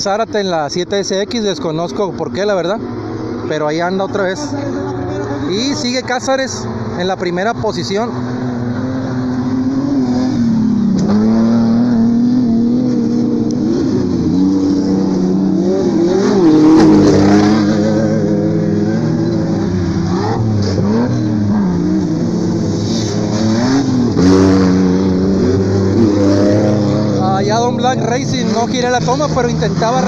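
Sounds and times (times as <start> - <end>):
race truck engines revving: 0.0 - 30.0.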